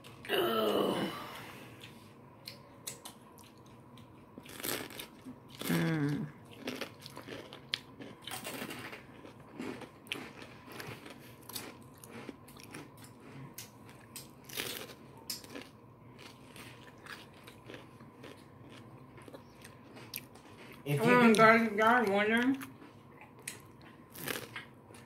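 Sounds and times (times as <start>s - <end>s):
crunching and chewing peppers: 1.8s - 25.0s.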